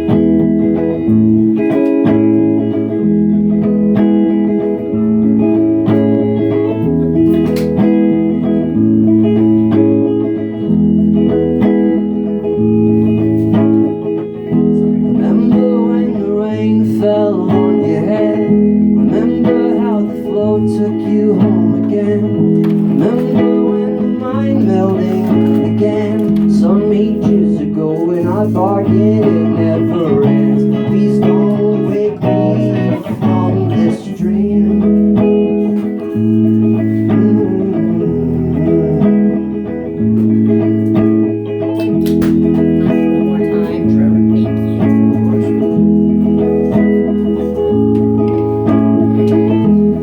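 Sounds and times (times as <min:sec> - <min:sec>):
bending guitar melody: 0:00.0 - 0:50.0
electric guitar chords: 0:00.0 - 0:50.0.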